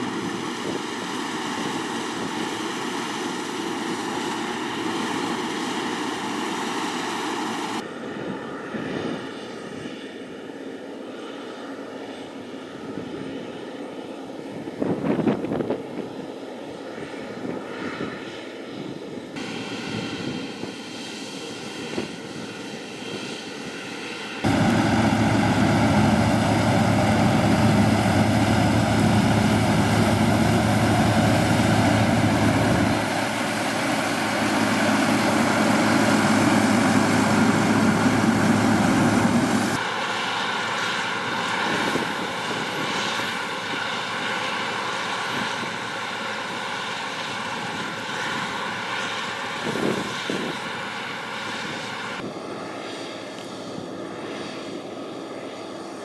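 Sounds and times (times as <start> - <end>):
combine harvester and tractor drone: 0.0 - 56.0.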